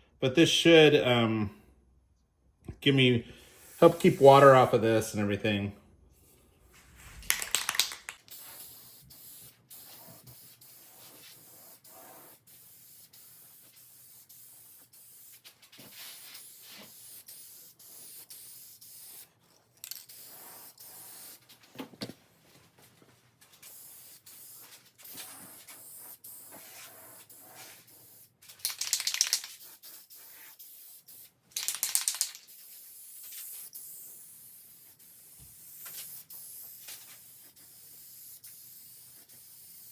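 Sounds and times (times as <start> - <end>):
spray can hissing: 3.5 - 4.7, 7.2 - 21.6, 23.5 - 39.9.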